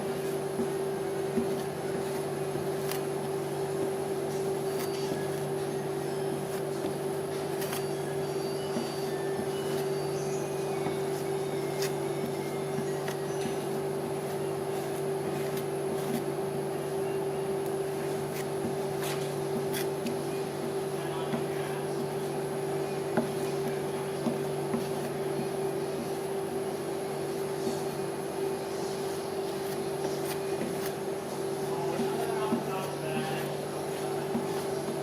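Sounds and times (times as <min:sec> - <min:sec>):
electric hum of freezing plate: 0:00.0 - 0:35.0.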